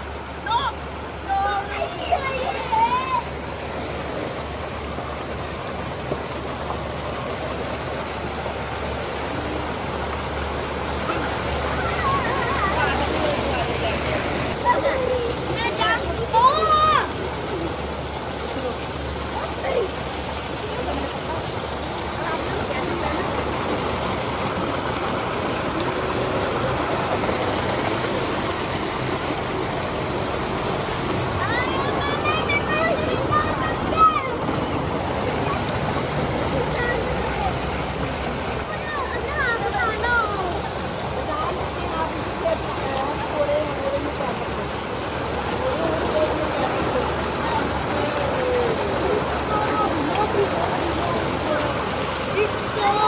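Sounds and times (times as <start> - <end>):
water gushing into a concrete tank: 0.0 - 53.0.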